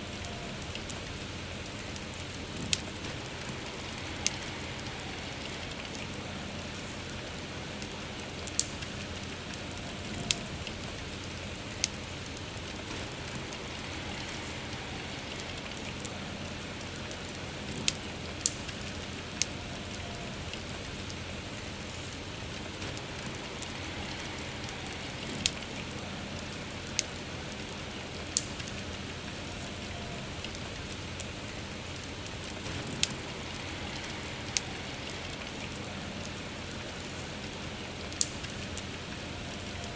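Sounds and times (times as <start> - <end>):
campfire crackling and popping: 0.0 - 39.9
soft rain: 0.0 - 39.9.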